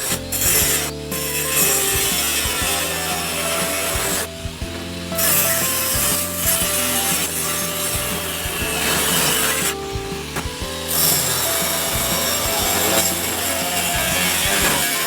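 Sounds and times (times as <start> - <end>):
background music: 0.0 - 15.0
rasping like sawing or filing: 0.0 - 15.0.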